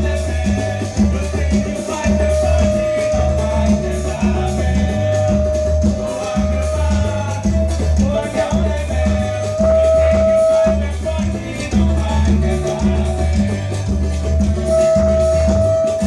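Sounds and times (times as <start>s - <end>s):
instrumental music with pulsing bass: 0.0s - 16.0s.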